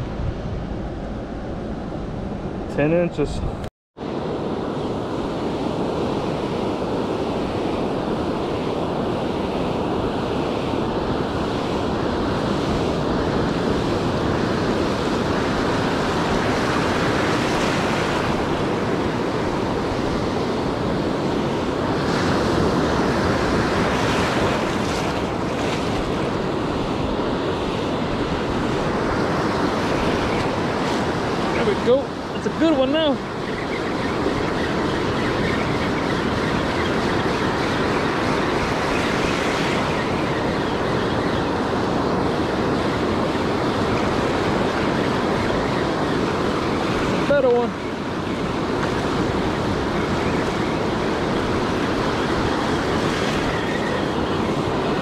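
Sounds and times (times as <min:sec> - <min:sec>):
ocean surf washing in: 0:00.0 - 0:55.0
wind buffeting microphone: 0:00.0 - 0:55.0.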